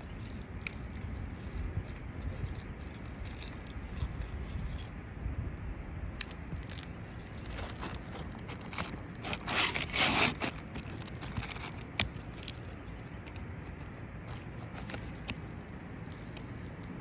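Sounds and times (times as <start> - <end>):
scraping and rustling on shingles: 0.0 - 5.1, 6.2 - 17.0
low steady rumble: 0.0 - 17.0.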